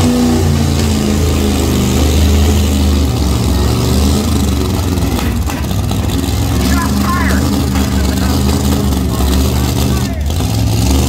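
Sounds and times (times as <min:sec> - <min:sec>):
vehicle engine running loud: 0:00.0 - 0:11.0.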